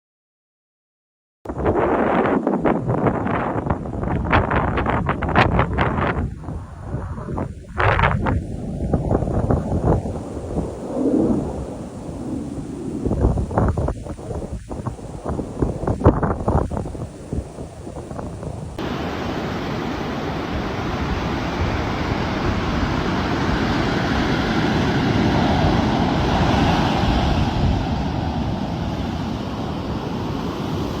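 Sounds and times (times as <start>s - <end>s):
steady rushing noise: 1.5s - 31.0s
wind buffeting microphone: 1.5s - 31.0s.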